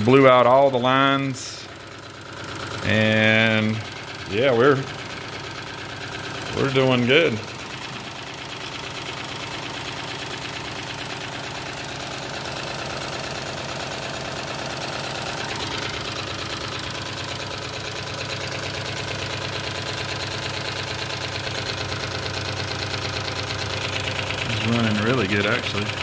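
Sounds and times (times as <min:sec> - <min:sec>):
model steam engine running: 0:00.0 - 0:26.0.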